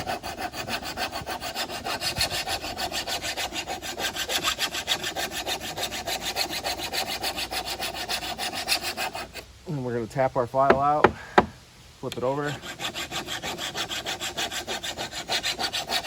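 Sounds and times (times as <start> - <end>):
file scraping steel blade: 0.0 - 9.4, 12.5 - 16.0.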